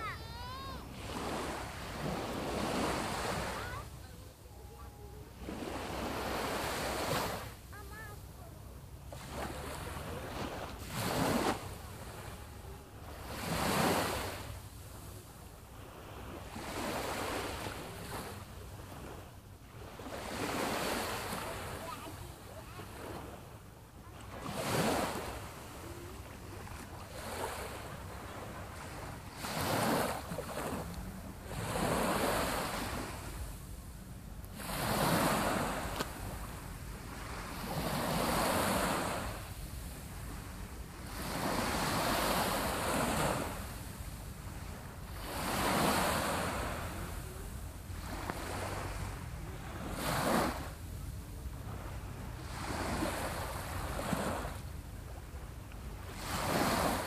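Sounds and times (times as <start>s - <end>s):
waves washing up on beach: 0.0s - 55.3s, 56.0s - 57.0s.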